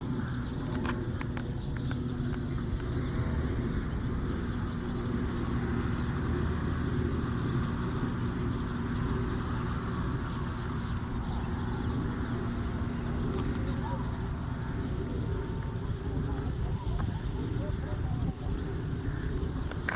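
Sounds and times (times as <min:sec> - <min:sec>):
aircraft engine droning: 0:00.0 - 0:19.9.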